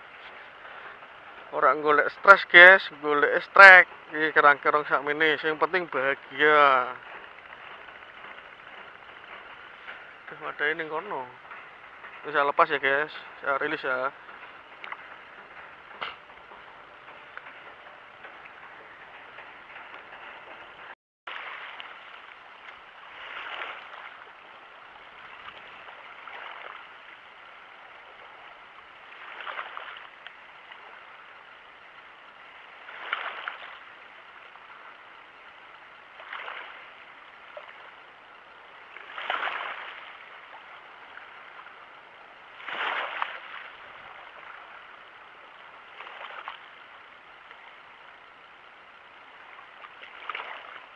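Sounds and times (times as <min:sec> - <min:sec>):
small waves lapping: 0:00.0 - 0:50.9.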